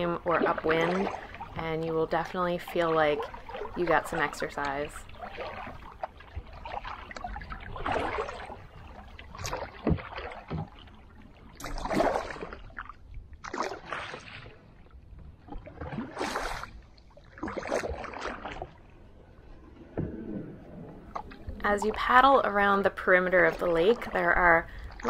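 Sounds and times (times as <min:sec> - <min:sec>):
kayak paddle splashing: 0:00.0 - 0:25.0.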